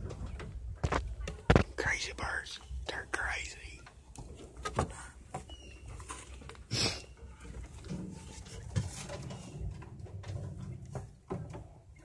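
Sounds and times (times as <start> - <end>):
knocks and rustles against cage: 0.0 - 1.8, 4.1 - 12.0.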